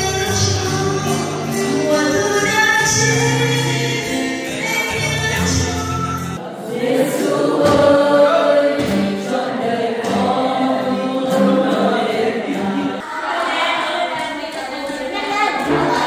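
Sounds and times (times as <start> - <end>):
choir singing: 1.4 - 14.2, 15.6 - 16.0.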